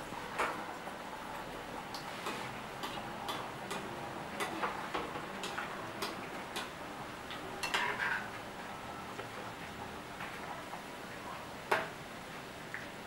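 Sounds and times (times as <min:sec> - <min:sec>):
deep-frying oil hissing and crackling: 0:00.0 - 0:13.0.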